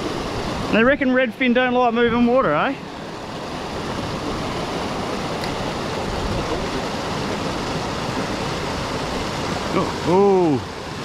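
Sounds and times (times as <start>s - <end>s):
waterfall rushing into pool: 0.0s - 11.0s.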